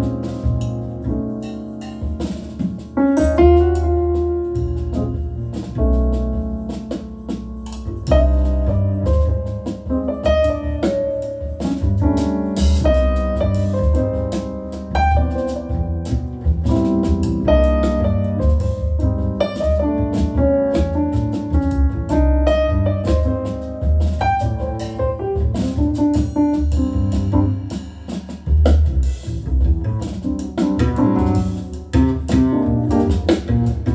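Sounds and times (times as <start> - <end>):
double bass line: 0.0 - 33.9
jazz piano: 0.0 - 33.9.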